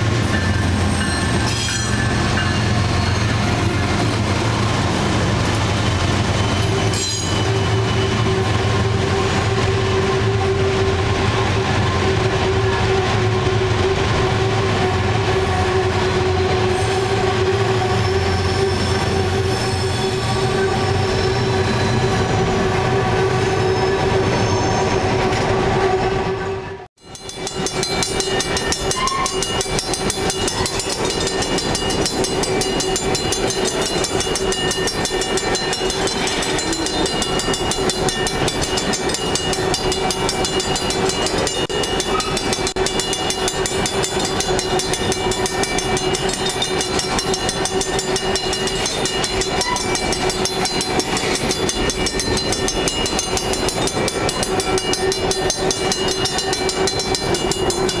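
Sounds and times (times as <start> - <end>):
freight train rumbling and rattling: 0.0 - 58.0.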